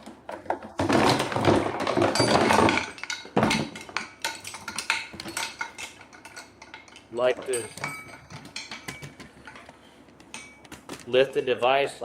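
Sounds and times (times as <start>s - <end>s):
hard parts knocking and clicking: 0.0s - 11.2s.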